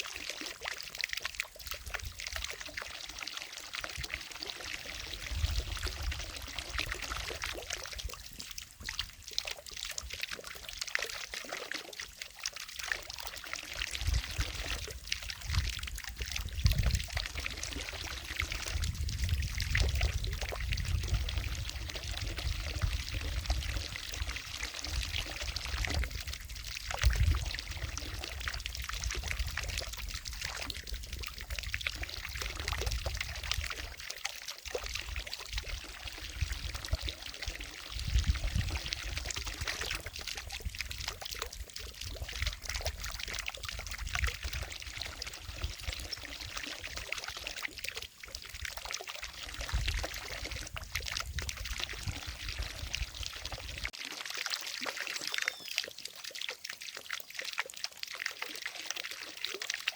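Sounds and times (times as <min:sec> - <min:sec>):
fountain water splashing into lake: 0:00.0 - 0:59.9.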